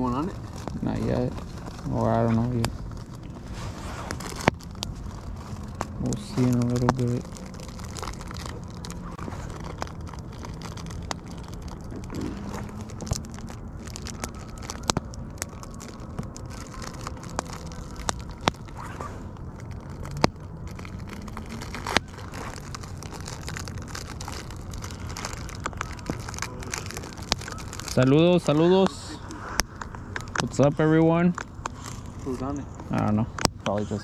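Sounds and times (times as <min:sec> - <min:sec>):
bonfire crackling and popping: 0:00.0 - 0:34.0.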